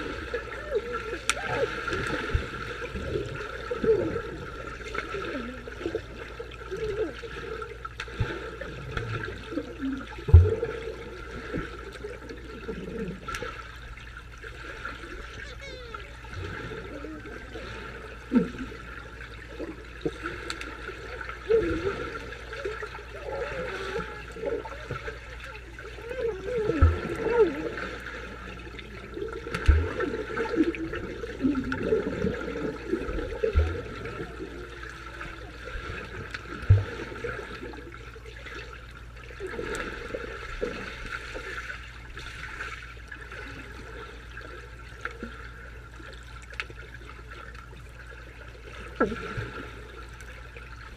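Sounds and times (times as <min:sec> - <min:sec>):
underwater wash with bubbling: 0:00.0 - 0:50.9.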